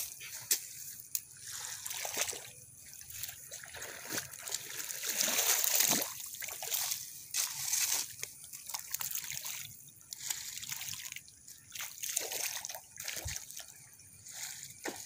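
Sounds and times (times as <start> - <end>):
mud and water splashing: 0.0 - 15.0.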